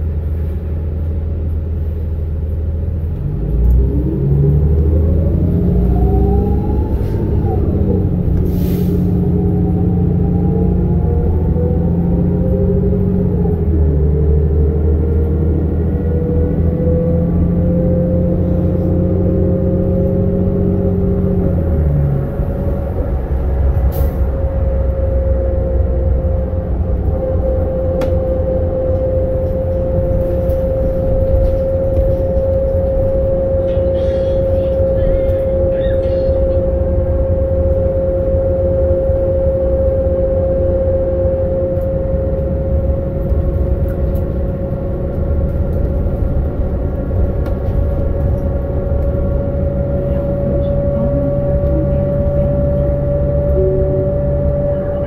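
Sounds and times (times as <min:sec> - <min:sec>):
bus engine drone: 0:00.0 - 0:55.0
drivetrain whine: 0:00.0 - 0:55.0
road rumble: 0:00.0 - 0:55.0.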